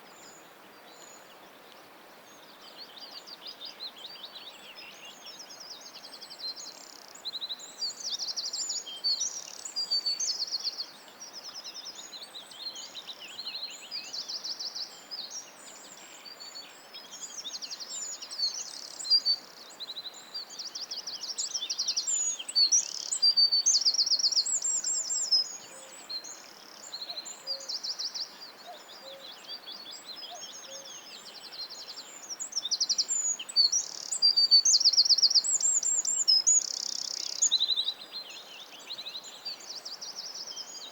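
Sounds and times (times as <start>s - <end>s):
faint steady hiss: 0.0s - 40.9s
songbirds trilling and chirping: 0.0s - 40.9s.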